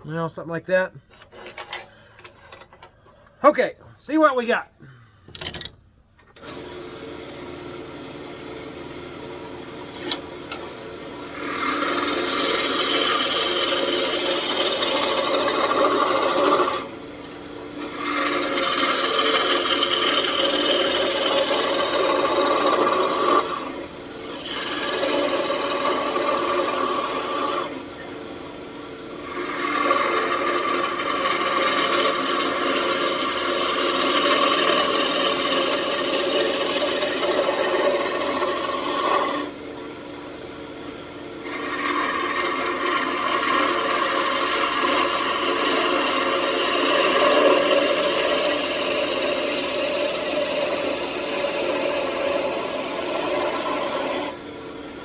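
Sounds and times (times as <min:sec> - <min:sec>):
turning tool cutting wood: 0:06.4 - 0:28.1, 0:29.0 - 0:39.6, 0:41.4 - 0:54.4
wood lathe motor running: 0:06.4 - 0:39.6, 0:41.4 - 0:54.4.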